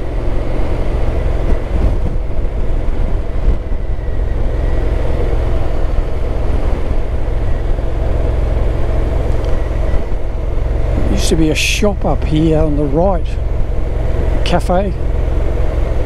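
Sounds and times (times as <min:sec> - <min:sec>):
motorcycle engine running: 0:00.0 - 0:16.0
riding noise rumble: 0:00.0 - 0:16.0.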